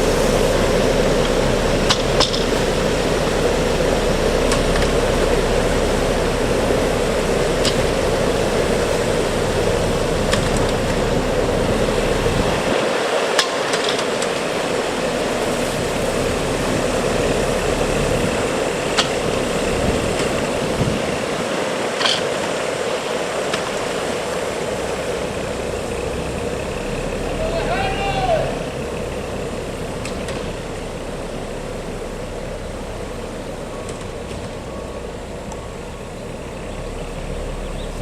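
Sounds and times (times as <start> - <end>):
heavy vehicle engine running: 0.0 - 38.0.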